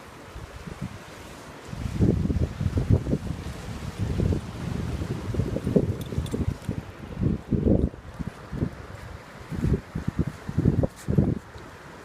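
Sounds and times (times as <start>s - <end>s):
steady outdoor hiss: 0.0s - 12.0s
wind buffeting microphone: 0.3s - 12.0s.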